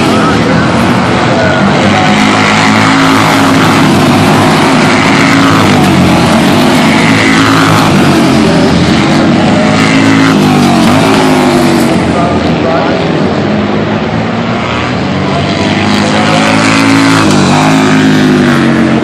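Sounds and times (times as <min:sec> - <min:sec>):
racing motorbikes passing: 0:00.0 - 0:19.0.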